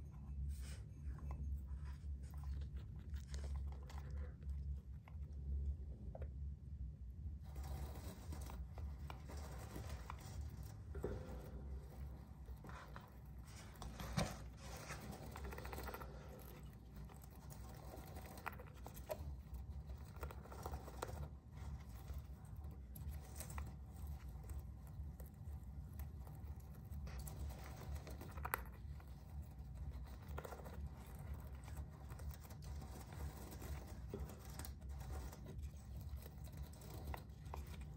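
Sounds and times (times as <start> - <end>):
hamster scratching wood: 7.4 - 37.9.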